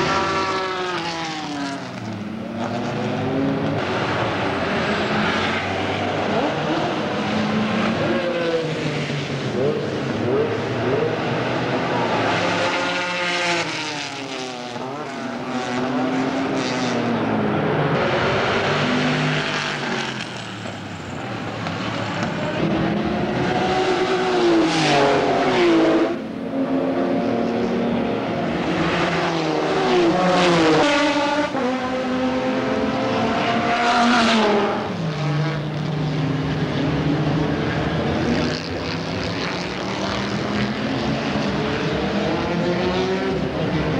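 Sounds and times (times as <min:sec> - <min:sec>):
race cars passing at speed: 0:00.0 - 0:43.9.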